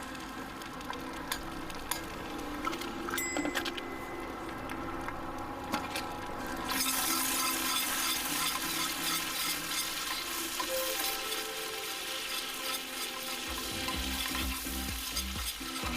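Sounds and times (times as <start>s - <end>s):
food sizzling in a pan: 0.0s - 5.1s, 6.1s - 15.9s.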